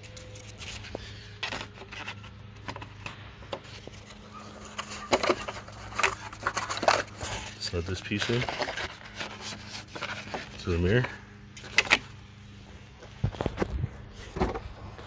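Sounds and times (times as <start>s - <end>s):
plastic parts clicking and scraping: 0.0s - 12.2s.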